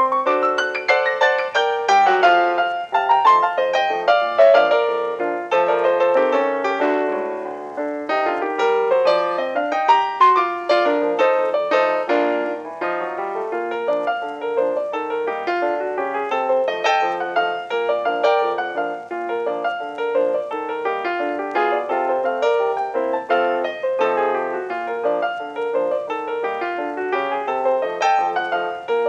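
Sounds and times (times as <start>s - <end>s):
piano music with quick notes: 0.0s - 29.0s.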